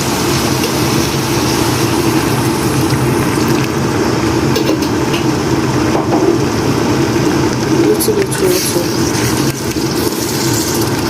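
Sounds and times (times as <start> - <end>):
mechanical motor hum: 0.0 - 11.0.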